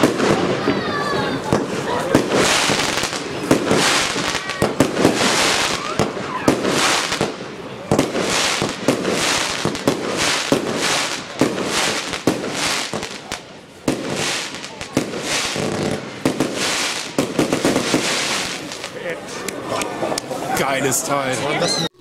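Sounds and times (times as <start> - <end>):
fireworks hissing bursts: 0.0 - 19.6.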